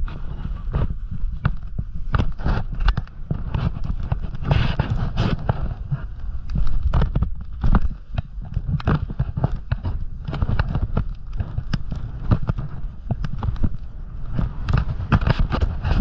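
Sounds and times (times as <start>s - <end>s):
snowboard clattering over bumps: 0.0s - 16.0s.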